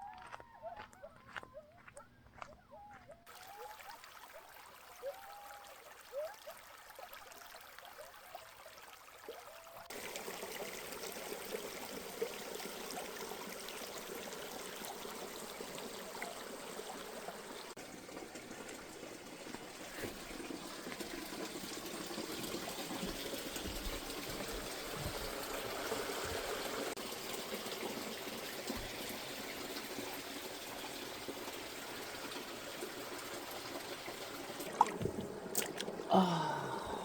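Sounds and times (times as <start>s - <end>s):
water running: 3.3s - 37.0s.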